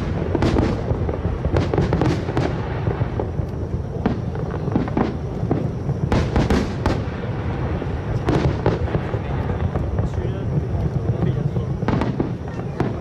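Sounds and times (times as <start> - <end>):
fireworks rumble: 0.0 - 13.0
sharp fireworks bangs: 0.0 - 13.0.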